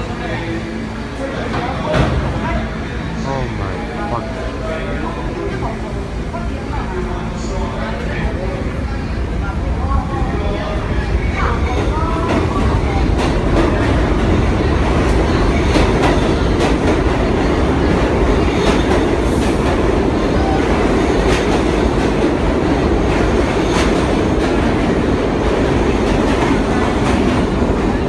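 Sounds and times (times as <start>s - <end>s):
train wheels rumbling on rails: 4.0s - 28.0s.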